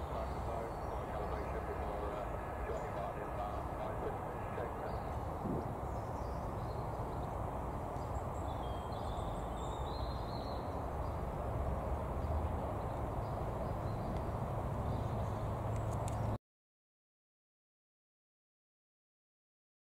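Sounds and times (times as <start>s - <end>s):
outdoor background rumble: 0.0s - 16.4s.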